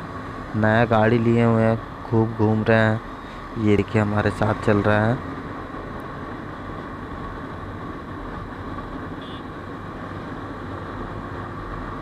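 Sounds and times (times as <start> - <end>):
wind rush and road noise: 0.0 - 12.0.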